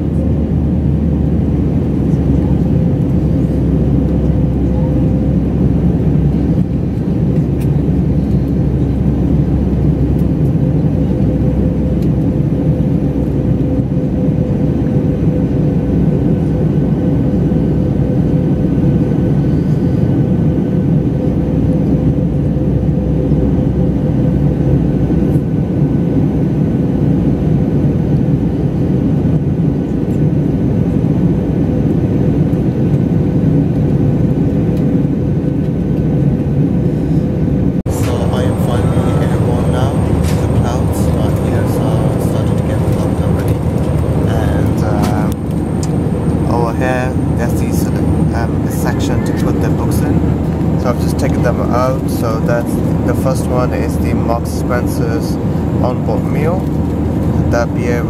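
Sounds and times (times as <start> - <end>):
aircraft engine rumble: 0.0 - 58.0
mid-pitched cabin hum: 0.0 - 58.0.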